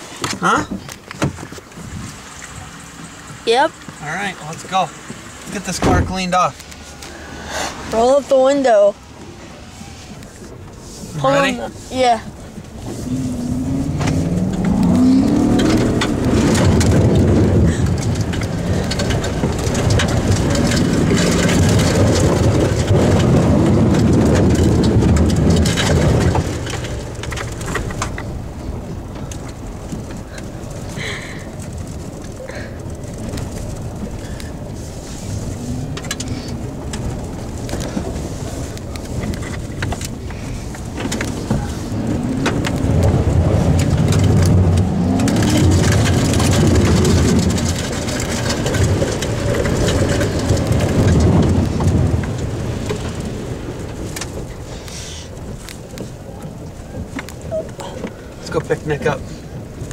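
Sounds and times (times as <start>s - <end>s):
truck rumble: 0.0s - 59.9s
water splashing against truck: 0.0s - 59.9s.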